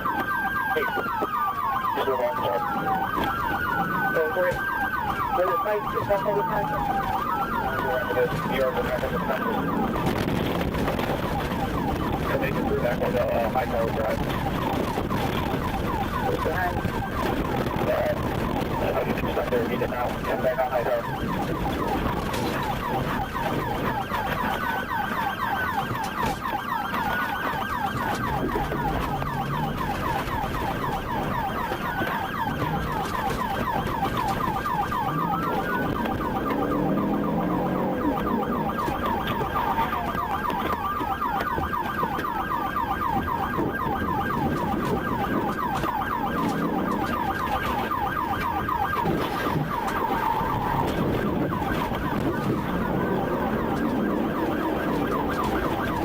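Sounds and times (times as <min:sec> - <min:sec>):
police siren wail: 0:00.0 - 0:56.0
police siren yelp: 0:00.0 - 0:56.0
road and engine noise: 0:00.0 - 0:56.0.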